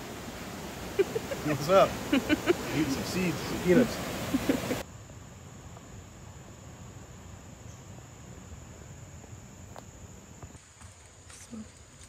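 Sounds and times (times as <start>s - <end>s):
woodland ambience: 0.0s - 12.0s.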